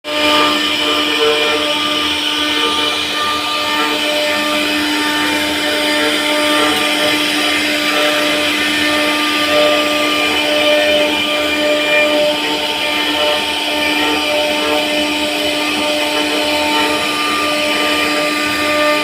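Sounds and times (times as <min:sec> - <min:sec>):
router spindle carving wood: 0:00.1 - 0:19.0.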